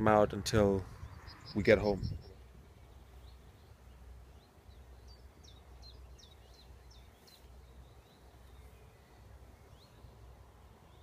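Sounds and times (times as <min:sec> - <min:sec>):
songbird high chirps: 0:00.8 - 0:11.0.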